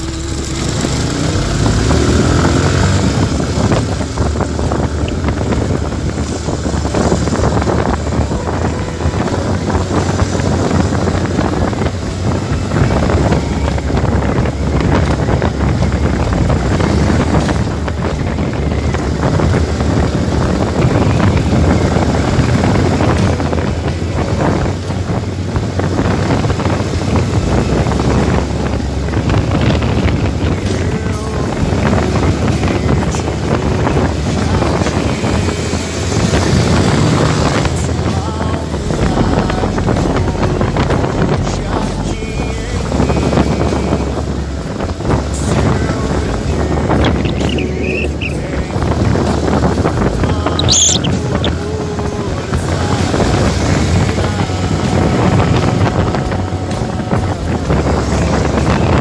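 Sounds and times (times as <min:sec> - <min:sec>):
vehicle engine running: 0:00.0 - 0:59.0
wind rushing over microphone: 0:00.0 - 0:59.0.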